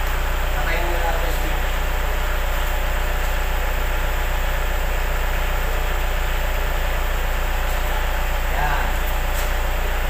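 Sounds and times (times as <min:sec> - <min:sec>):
air compressor running: 0:00.0 - 0:10.0.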